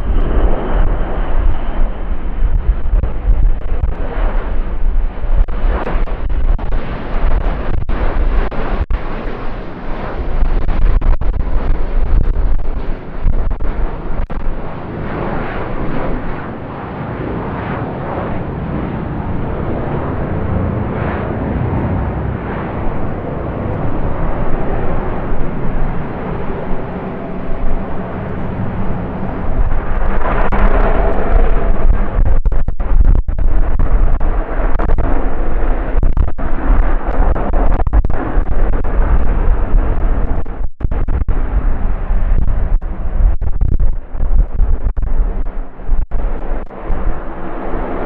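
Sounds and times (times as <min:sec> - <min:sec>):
aircraft engine noise: 0:00.0 - 0:48.0.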